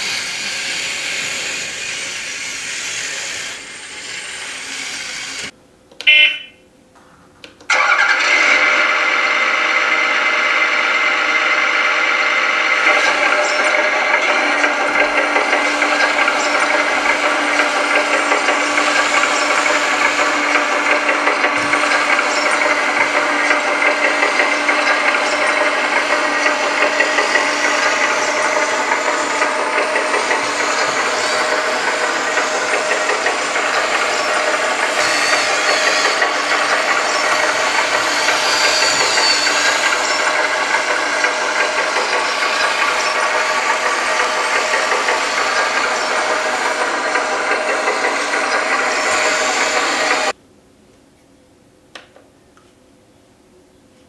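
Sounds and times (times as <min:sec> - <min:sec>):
toy excavator whine and rattle: 0:00.0 - 0:05.6, 0:07.7 - 0:50.4.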